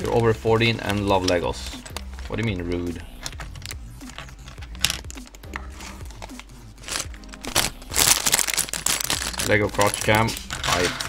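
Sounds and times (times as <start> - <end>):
quiet background music: 0.0 - 11.0
plastic bag crinkling: 0.8 - 11.0
plastic pieces clicking and rattling: 0.8 - 11.0.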